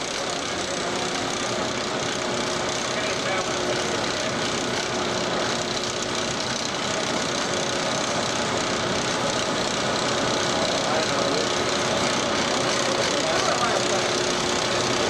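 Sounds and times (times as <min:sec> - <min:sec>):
bottling machine clatter: 0:00.0 - 0:15.0
constant machine hum: 0:00.0 - 0:15.0.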